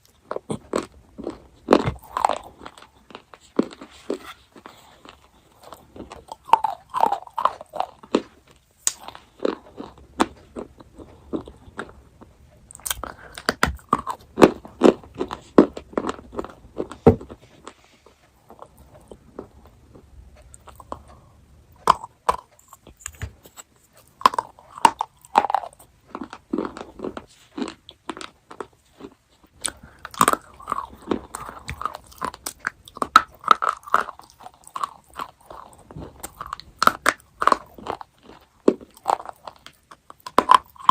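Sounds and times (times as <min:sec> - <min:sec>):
crunchy chocolate chewing: 0:00.0 - 0:40.9.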